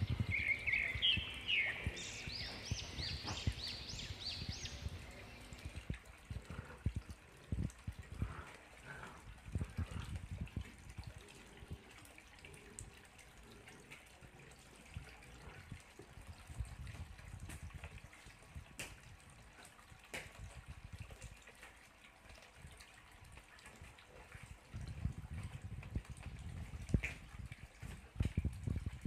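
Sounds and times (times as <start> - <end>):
fountain water trickling: 0.0 - 29.0.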